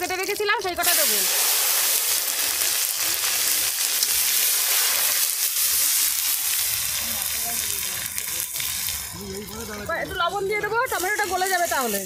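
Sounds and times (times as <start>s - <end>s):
tomatoes sizzling in oil: 0.0s - 12.0s.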